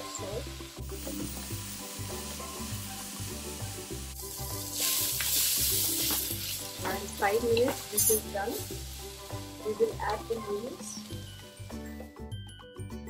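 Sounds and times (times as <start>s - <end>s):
vegetables sizzling in wok: 0.0s - 11.9s
background music with bass line: 0.0s - 13.0s.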